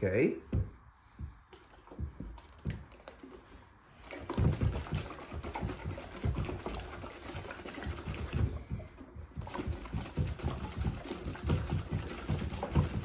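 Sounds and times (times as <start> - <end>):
water sloshing and swirling: 0.7 - 13.0.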